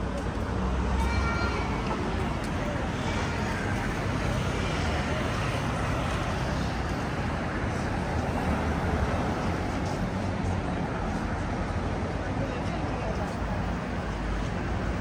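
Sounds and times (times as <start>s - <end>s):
people's voices: 0.0s - 15.0s
traffic rumble: 0.0s - 15.0s.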